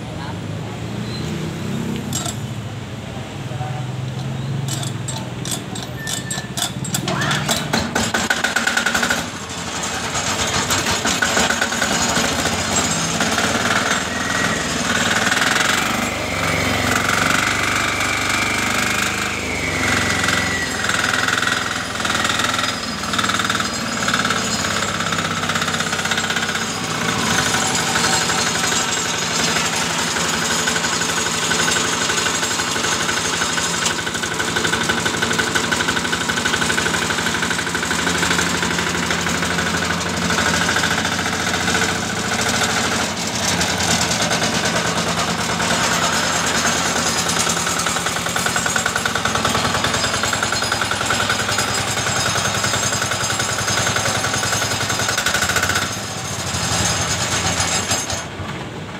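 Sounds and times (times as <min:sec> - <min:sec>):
single-cylinder engine running: 0:00.0 - 0:58.9
engine starter: 0:01.0 - 0:02.8, 0:03.9 - 0:58.9.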